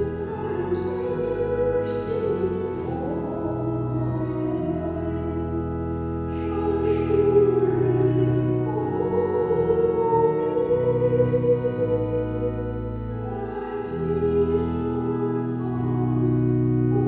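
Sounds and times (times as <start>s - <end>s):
instrumental accompaniment: 0.0s - 17.0s
person singing slow sacred song: 0.0s - 17.0s.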